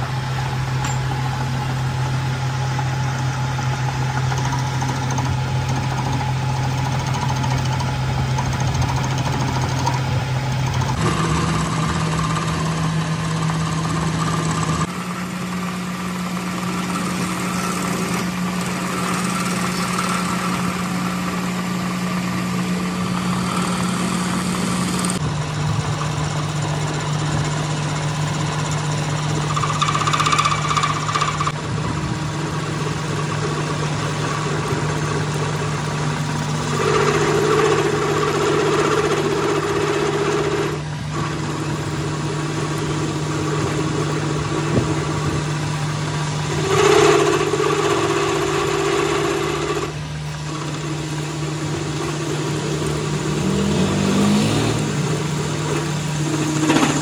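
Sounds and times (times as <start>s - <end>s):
lathe tool cutting steel ringing: 0.0s - 31.6s, 32.2s - 53.9s
metal lathe motor hum: 0.0s - 57.0s.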